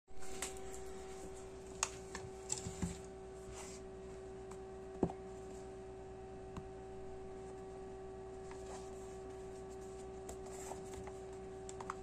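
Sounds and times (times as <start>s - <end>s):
steady hum: 0.1s - 12.0s.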